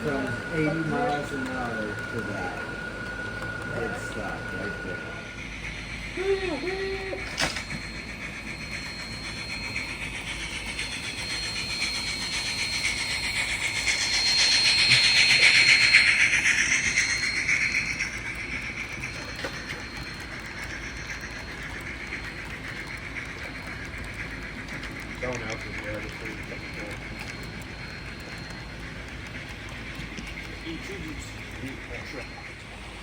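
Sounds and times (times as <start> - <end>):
model train wheels on rail: 0.0 - 33.0
thin high whine: 0.0 - 33.0.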